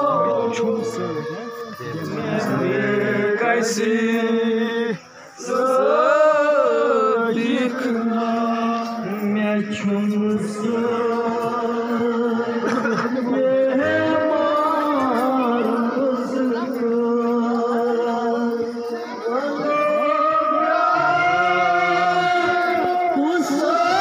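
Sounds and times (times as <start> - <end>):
man chanting slowly: 0.0 - 24.0.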